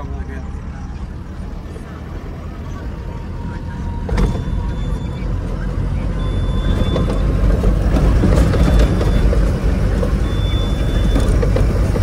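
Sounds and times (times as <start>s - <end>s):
diesel truck engine: 0.0s - 12.0s
road rumble: 0.0s - 12.0s.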